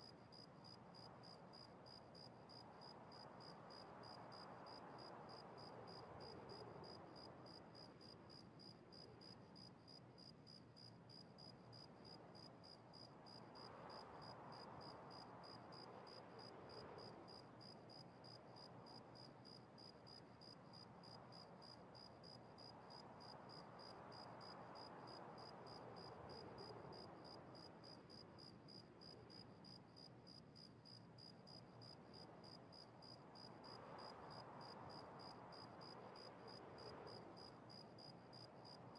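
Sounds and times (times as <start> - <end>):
faint room hiss: 0.0 - 38.9.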